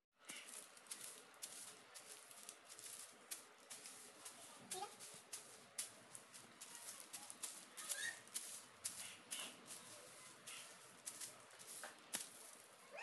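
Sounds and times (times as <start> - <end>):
broom sweeping tile floor: 0.2 - 12.9.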